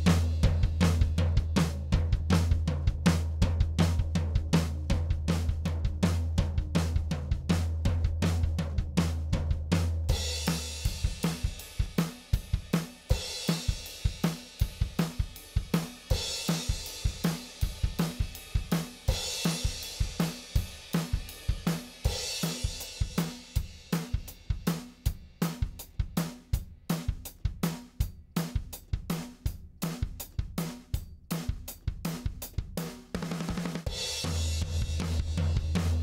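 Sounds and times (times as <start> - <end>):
acoustic drum kit groove: 0.0 - 36.0.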